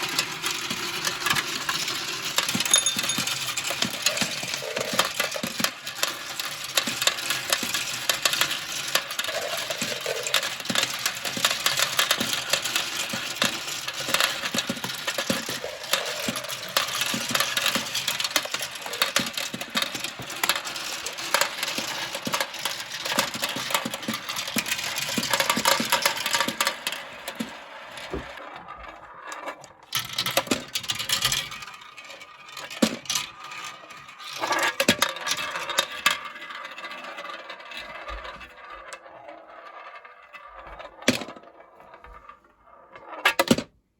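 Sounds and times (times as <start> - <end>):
marbles rattling down plastic track: 0.0 - 43.6.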